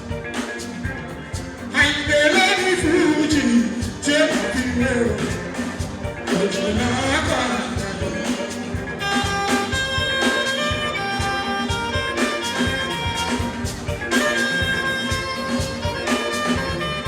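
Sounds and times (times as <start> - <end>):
band music with percussion beat: 0.0 - 17.0.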